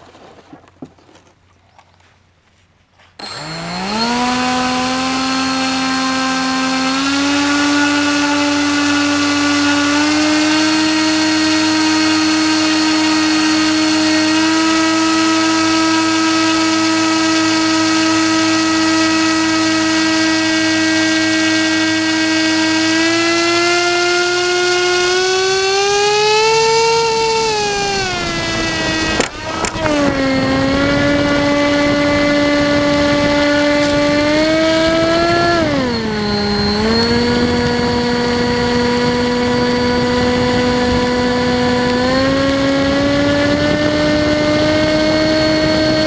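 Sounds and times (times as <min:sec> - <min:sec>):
model airboat motor whining: 0:03.2 - 0:46.0.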